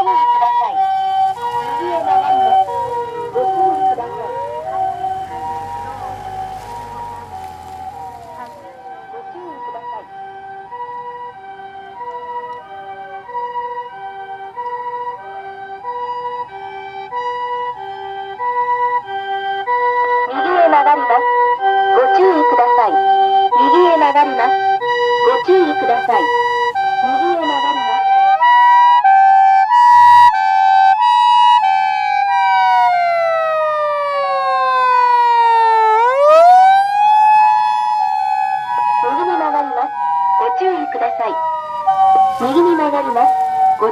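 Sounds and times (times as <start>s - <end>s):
two-tone ambulance siren: 0.0s - 43.9s
wailing siren: 0.0s - 43.9s.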